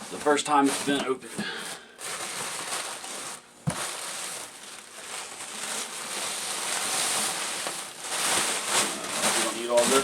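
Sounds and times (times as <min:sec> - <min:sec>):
packing material crinkling: 0:00.0 - 0:10.0.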